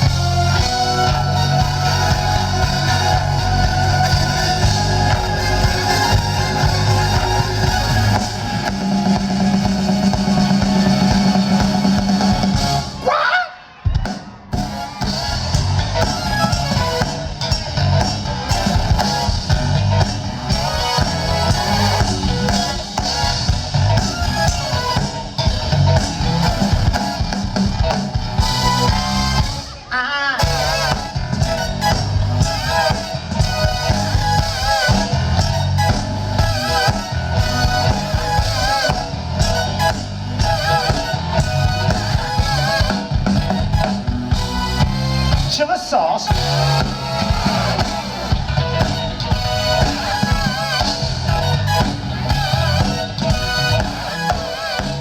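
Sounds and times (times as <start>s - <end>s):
bass guitar: 0.0s - 13.1s, 14.0s - 55.0s
funk band playing: 0.0s - 13.1s, 13.9s - 55.0s
guitar: 0.0s - 13.1s, 13.7s - 55.0s
drums: 0.0s - 55.0s.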